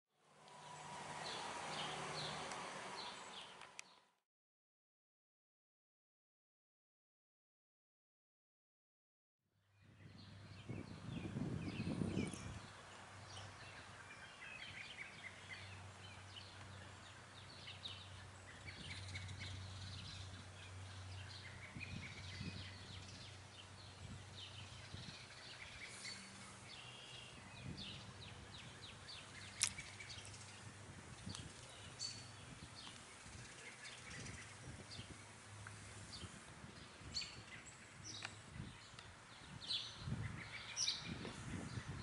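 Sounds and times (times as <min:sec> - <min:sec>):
small birds chirping: 0:00.5 - 0:04.1, 0:09.8 - 0:42.0.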